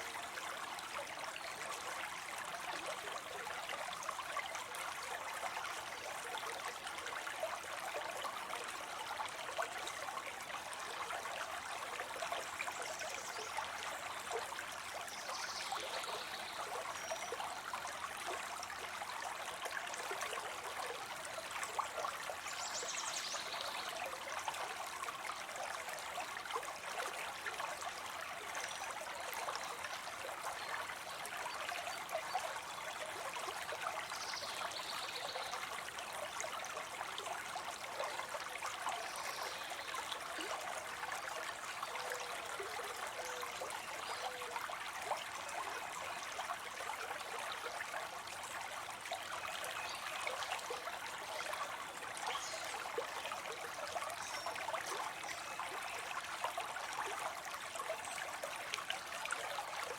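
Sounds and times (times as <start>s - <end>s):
waterfall spilling into a pond: 0.0s - 59.9s.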